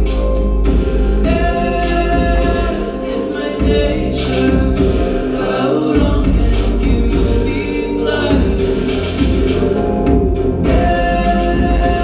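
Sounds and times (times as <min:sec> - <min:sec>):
person singing long notes: 0:00.0 - 0:09.2, 0:10.6 - 0:12.0
deep bass: 0:00.0 - 0:12.0.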